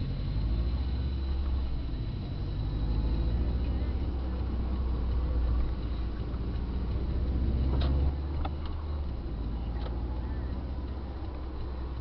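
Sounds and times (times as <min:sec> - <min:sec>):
car engine and road rumble: 0:00.0 - 0:12.0
faint ticks: 0:00.1 - 0:12.0.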